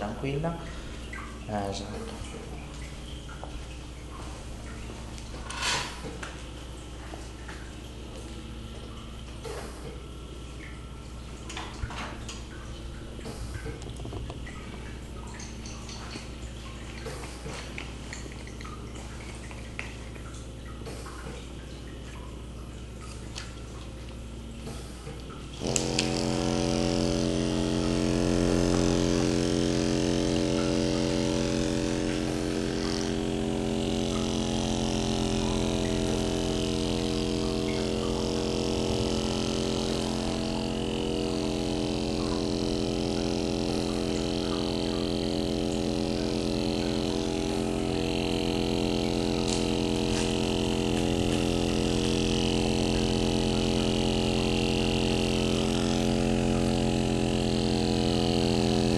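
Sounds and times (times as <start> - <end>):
massage device humming: 0.0 - 58.9.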